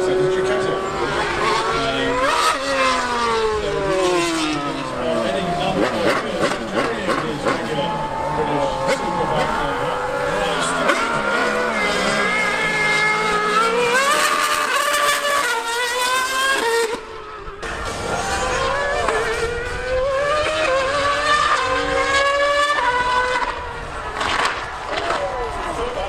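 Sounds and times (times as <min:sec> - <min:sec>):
racing engine accelerating: 0:00.0 - 0:26.0.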